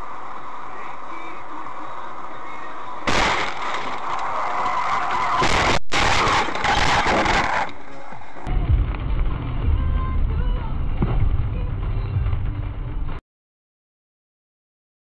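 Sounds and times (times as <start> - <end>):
in-car road noise: 0.0 - 5.5, 6.5 - 13.2.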